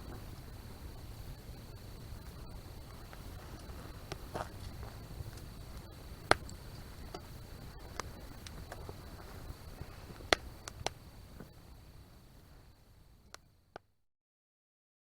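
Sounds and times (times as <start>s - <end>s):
wood fire crackling and popping: 0.0s - 13.9s.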